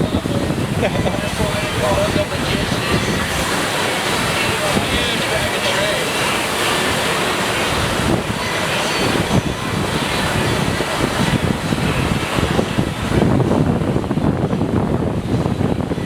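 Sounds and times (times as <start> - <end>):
water rushing: 0.0 - 16.0
wind buffeting microphone: 0.0 - 16.0.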